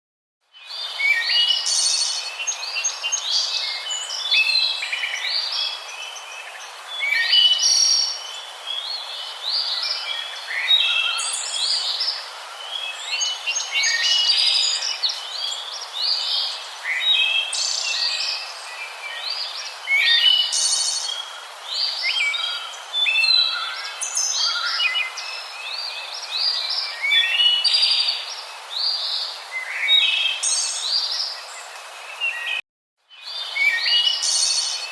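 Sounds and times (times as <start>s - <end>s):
small birds chirping: 0.5s - 34.9s.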